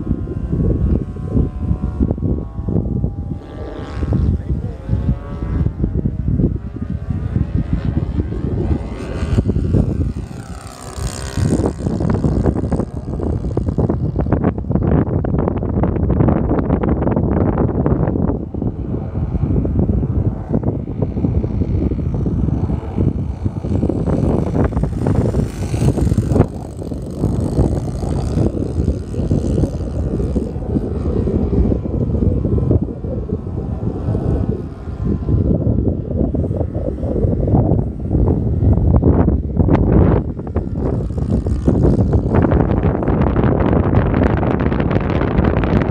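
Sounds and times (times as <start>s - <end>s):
propeller plane engine running: 0.0s - 45.9s
wind buffeting microphone: 0.0s - 45.9s.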